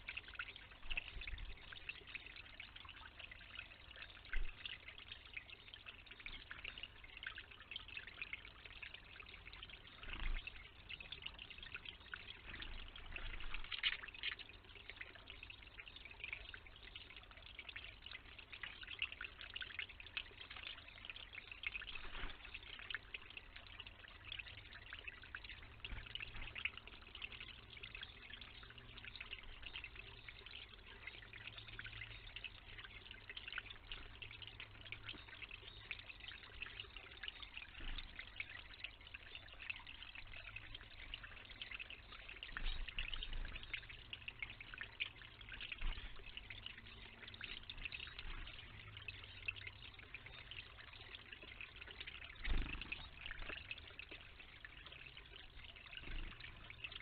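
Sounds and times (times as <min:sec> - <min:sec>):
water trickling into a pool: 0:00.0 - 0:57.0.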